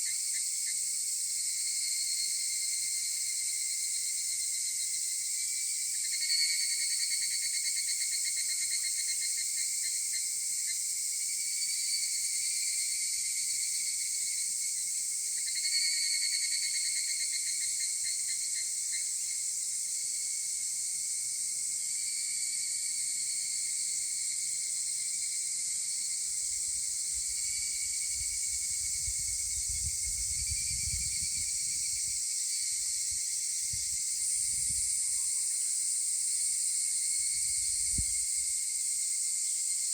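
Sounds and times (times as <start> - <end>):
cicada pulsed ringing call: 0.0 - 39.9
high-pitched insect hiss: 0.0 - 39.9.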